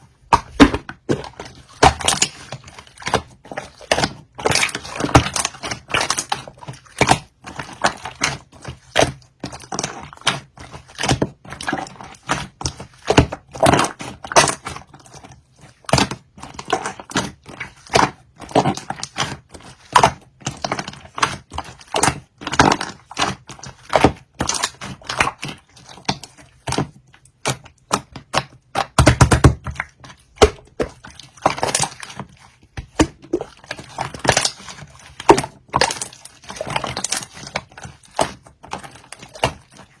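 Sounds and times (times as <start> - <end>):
slime squished by hand: 0.2 - 40.0.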